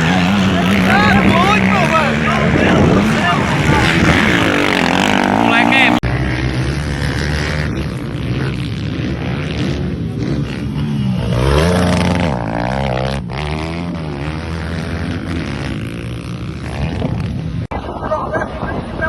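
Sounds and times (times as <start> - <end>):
motocross bike engines revving: 0.0 - 17.7.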